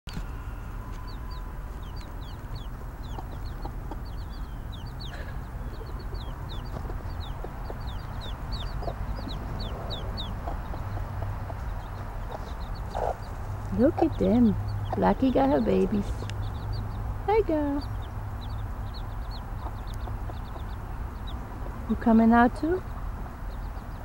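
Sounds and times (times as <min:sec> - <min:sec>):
baby chicks peeping: 0:00.1 - 0:24.0
low rumble: 0:00.1 - 0:24.0.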